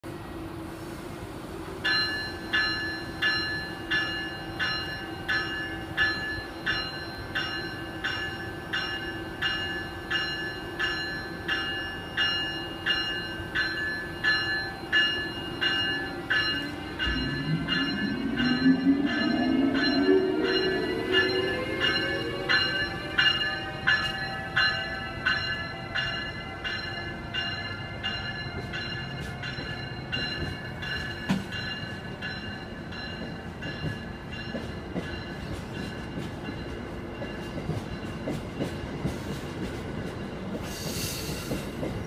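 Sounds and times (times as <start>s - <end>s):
locomotive bell ringing: 1.8s - 39.2s.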